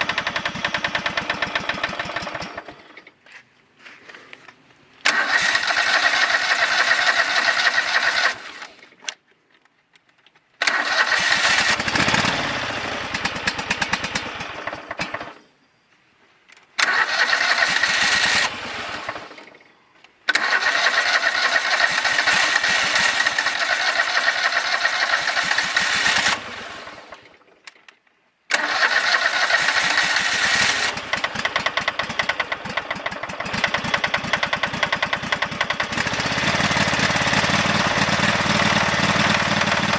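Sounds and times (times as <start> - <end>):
garden tractor engine starting: 0.0 - 3.2, 5.0 - 9.2, 10.6 - 15.5, 16.8 - 27.8, 28.5 - 39.9.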